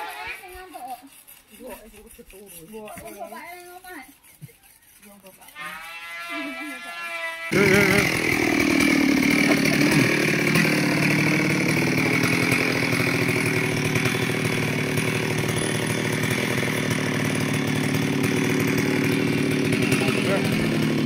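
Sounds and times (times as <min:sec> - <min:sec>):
chainsaw engine running: 0:00.0 - 0:21.0.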